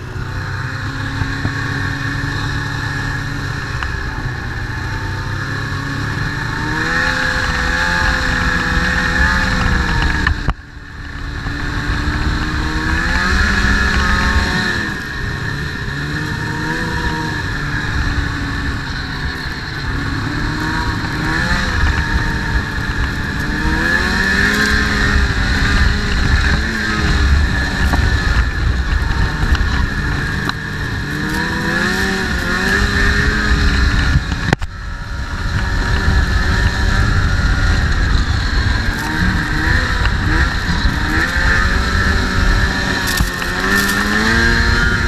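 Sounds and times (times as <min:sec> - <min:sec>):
snowmobile engine revving: 0:00.0 - 0:45.0.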